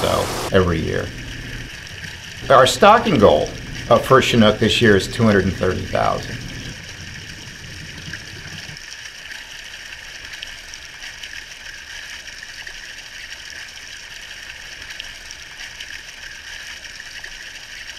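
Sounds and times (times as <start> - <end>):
rushing bubbling water: 0.0 - 17.9.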